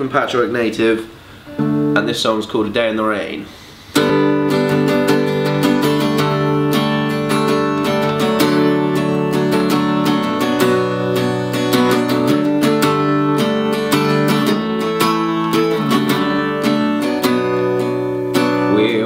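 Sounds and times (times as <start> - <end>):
acoustic guitar strumming: 1.4 - 2.5, 3.8 - 19.0.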